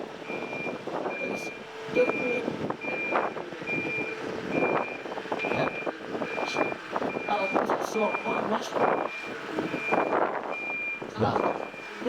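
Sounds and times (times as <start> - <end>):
reversing alarm beeping: 0.2 - 12.0.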